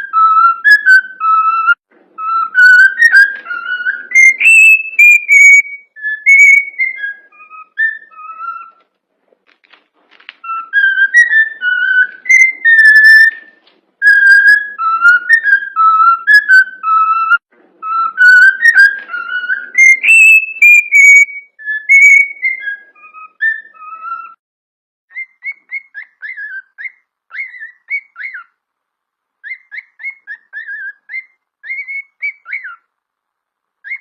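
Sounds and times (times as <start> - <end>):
cockatiel whistling a tune: 0.0 - 8.8, 10.4 - 24.4, 25.1 - 28.6, 29.4 - 32.9.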